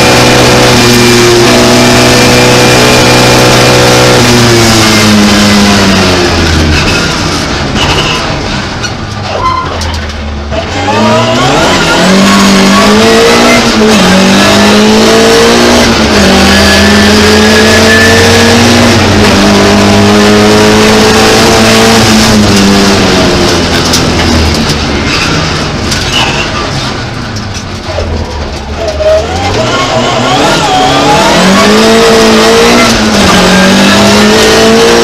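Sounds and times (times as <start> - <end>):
rally car engine accelerating: 0.0 - 9.2, 9.9 - 35.0.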